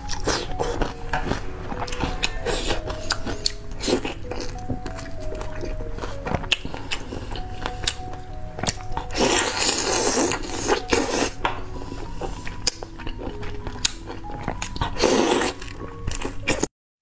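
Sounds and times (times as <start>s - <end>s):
background music: 0.0s - 16.7s
chewing: 0.0s - 16.7s.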